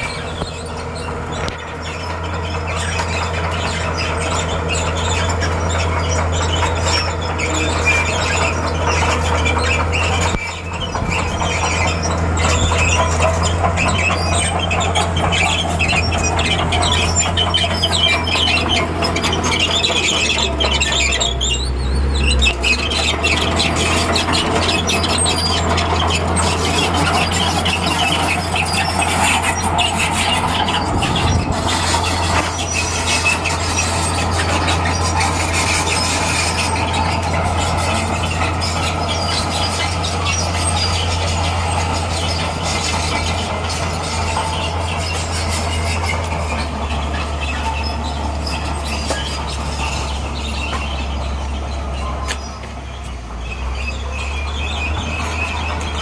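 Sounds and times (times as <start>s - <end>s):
bulldozer diesel engine running: 0.0s - 56.0s
steel crawler tracks clattering: 0.0s - 56.0s.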